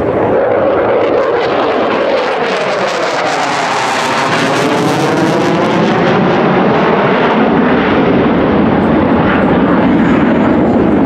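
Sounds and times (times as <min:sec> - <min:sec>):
fighter jet passing with afterburners: 0:00.0 - 0:11.0.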